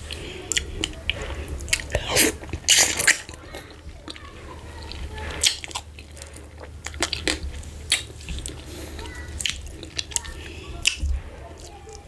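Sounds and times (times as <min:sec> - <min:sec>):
wet squelchy chewing: 0:00.0 - 0:12.0.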